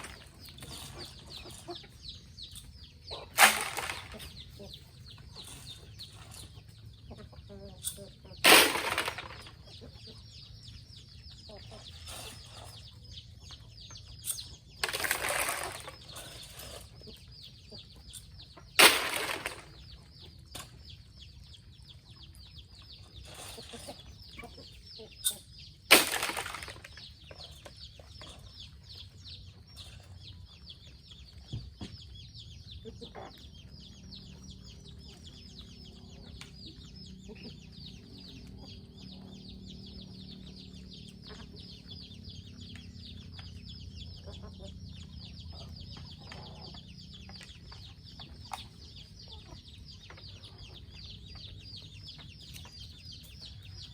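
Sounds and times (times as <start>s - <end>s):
chickens clucking: 0.0s - 53.9s.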